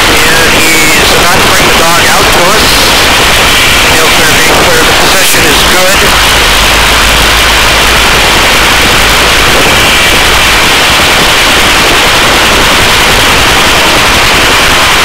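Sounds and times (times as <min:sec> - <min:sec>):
helicopter hovering: 0:00.0 - 0:15.0.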